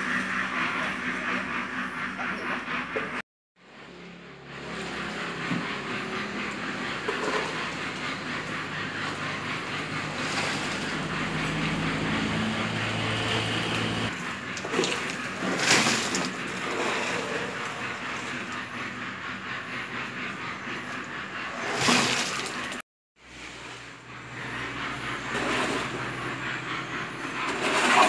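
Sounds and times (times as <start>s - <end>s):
steady mechanical rumble: 0.0s - 28.0s.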